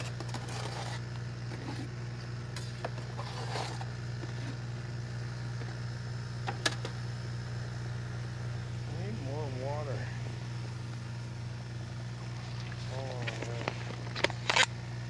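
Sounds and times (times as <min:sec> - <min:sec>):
air pump humming: 0:00.0 - 0:15.0.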